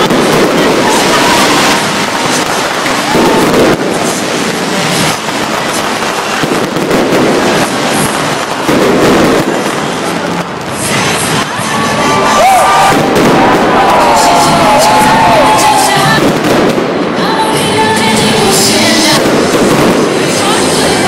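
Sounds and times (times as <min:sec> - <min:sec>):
fireworks crackling and banging: 0:00.0 - 0:21.0
onlookers' voices: 0:00.0 - 0:21.0.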